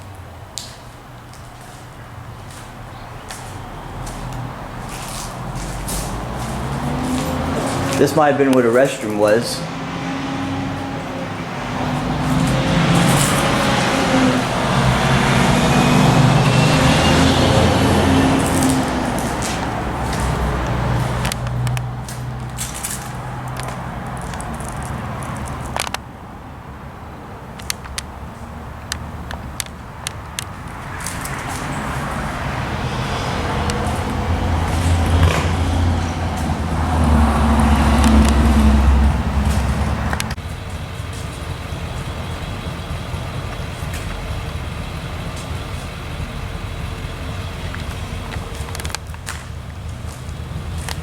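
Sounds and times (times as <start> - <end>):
vehicle engine running: 0.0 - 26.1, 27.0 - 51.0.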